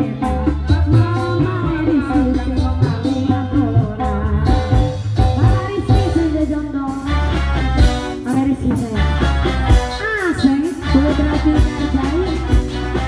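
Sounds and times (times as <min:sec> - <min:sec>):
drum strokes and percussion: 0:00.0 - 0:13.0.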